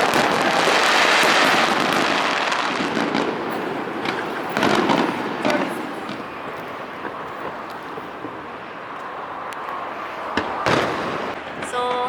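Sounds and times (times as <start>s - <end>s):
fireworks crackling: 0.0s - 12.0s
sharp firework cracks: 0.0s - 12.0s.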